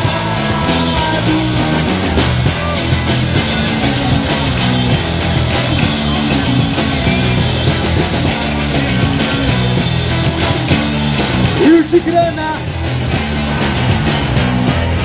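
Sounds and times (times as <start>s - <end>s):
bass guitar: 0.0s - 15.0s
distorted electric guitar: 0.0s - 15.0s
drums at steady beat: 0.0s - 15.0s.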